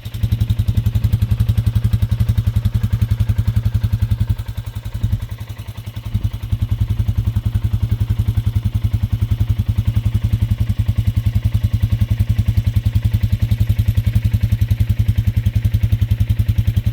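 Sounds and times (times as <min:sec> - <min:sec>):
atv engine running: 0:00.0 - 0:16.9.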